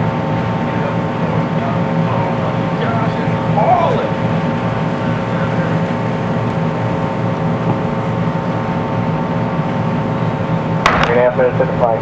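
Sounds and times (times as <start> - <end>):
steady mechanical drone: 0.0 - 12.0.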